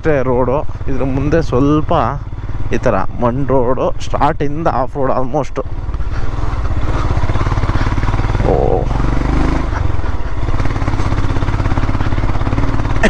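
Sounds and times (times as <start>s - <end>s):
motorcycle engine running: 0.1s - 13.0s.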